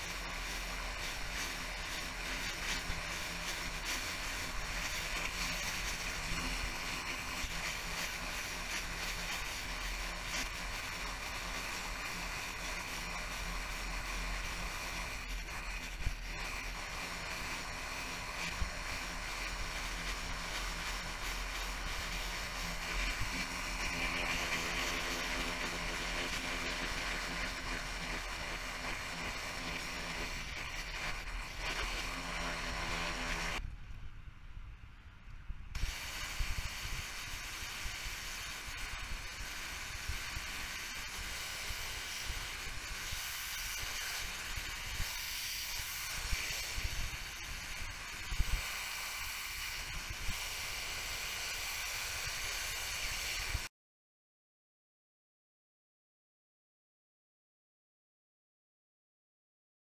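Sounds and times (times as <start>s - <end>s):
high-pressure water hissing: 0.0s - 33.6s, 35.8s - 53.7s
pressure washer machine hum: 0.0s - 33.6s, 35.8s - 53.7s.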